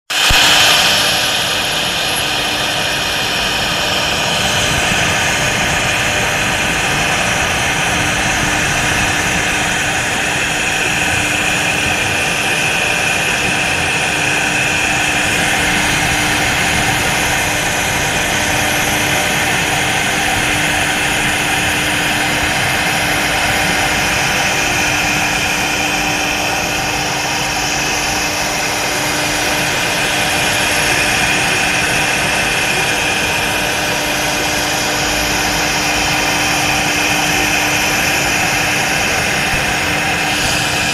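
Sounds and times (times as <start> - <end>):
router spindle whining: 0.1 - 40.9.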